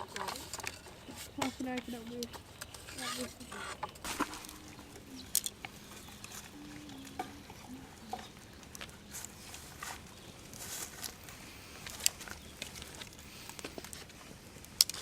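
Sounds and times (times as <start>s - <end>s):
rustling of handling: 0.0s - 15.0s.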